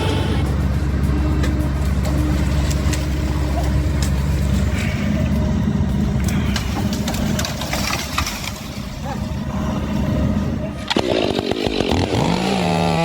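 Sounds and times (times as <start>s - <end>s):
large engine running: 0.0s - 13.0s.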